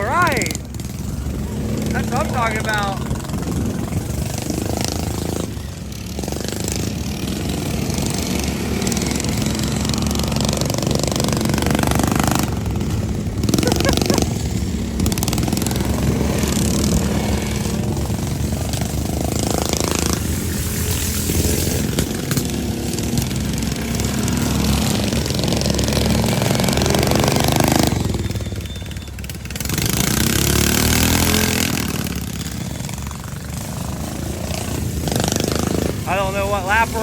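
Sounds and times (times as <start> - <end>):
racing lawn mower engines: 0.0 - 37.0.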